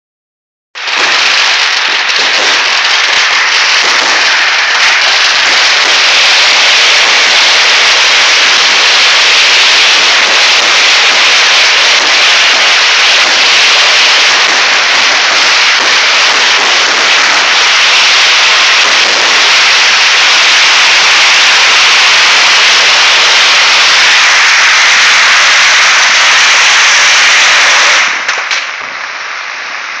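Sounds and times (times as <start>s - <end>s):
fireworks crackling and banging: 0.8s - 30.0s.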